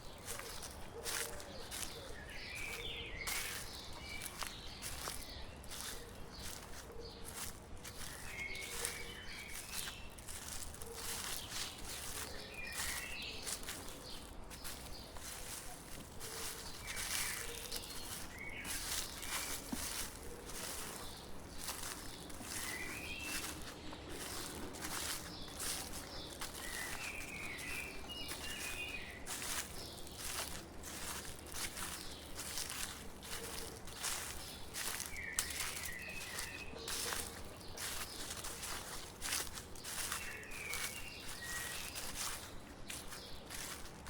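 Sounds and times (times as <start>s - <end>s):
footsteps crunching through dry leaves: 0.0s - 44.0s
small birds chirping: 0.0s - 44.0s.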